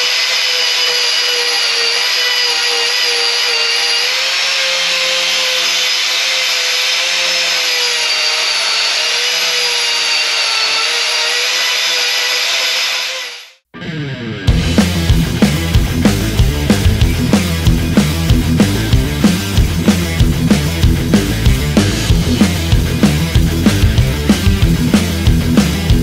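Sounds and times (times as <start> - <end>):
angle grinder grinding wood: 0.0 - 13.6, 14.5 - 26.0.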